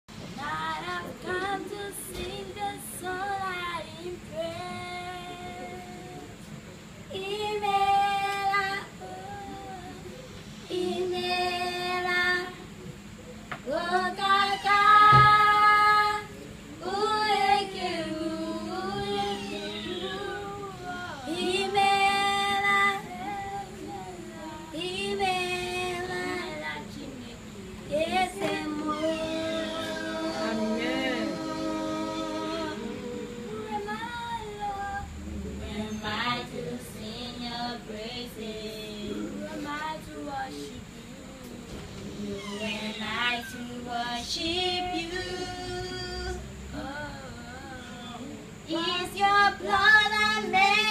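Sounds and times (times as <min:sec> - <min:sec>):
girls singing: 0:00.2 - 0:50.9.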